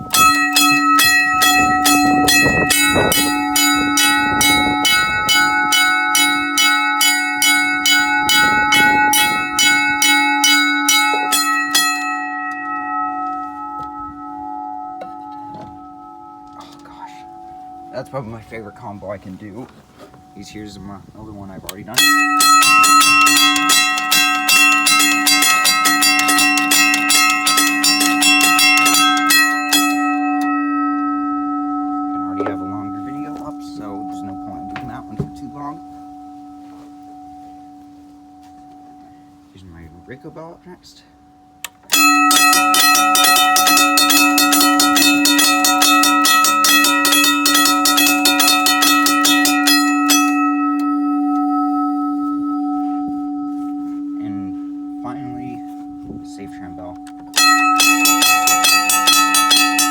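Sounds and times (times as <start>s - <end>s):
gong humming: 0.0s - 59.9s
railroad crossing bell ringing: 0.0s - 59.9s.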